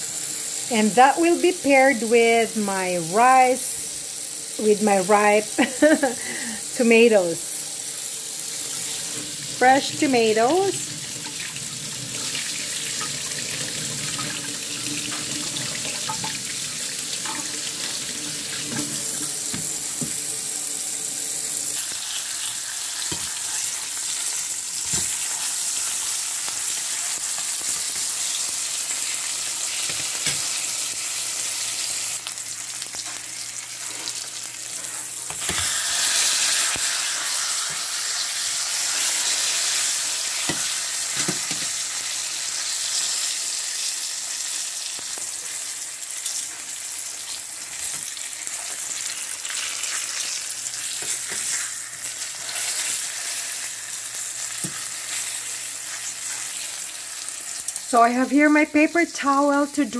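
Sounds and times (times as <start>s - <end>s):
fish sizzling in oil: 0.0s - 58.6s.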